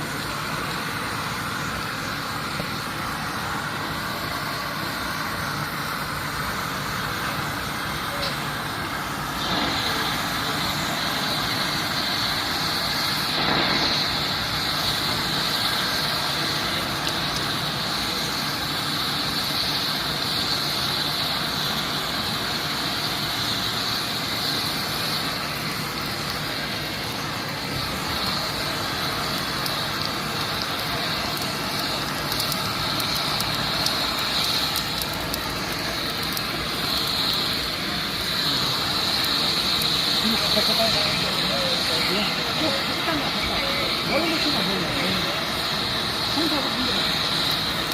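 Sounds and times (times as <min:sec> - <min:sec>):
gas torch hissing roar: 0:00.0 - 0:47.9.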